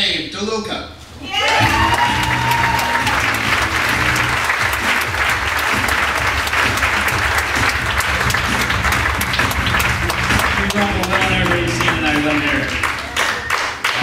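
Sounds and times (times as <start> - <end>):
audience applauding: 1.4 - 14.0
walk-on music: 1.6 - 13.0.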